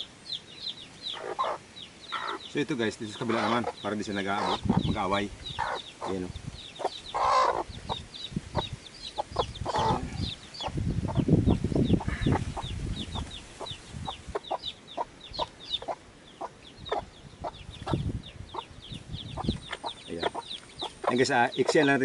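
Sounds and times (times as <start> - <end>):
chicks peeping: 0.0 - 22.0
hen clucking: 0.0 - 22.0.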